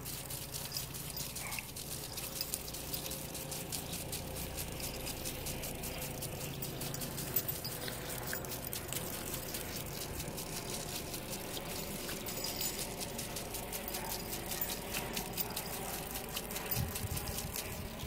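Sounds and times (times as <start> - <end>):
hose water spraying on grass: 0.0 - 18.0.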